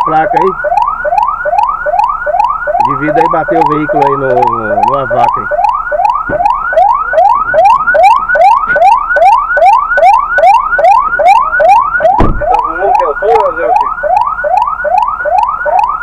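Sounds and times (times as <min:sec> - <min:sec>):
police siren yelping: 0:00.0 - 0:16.0.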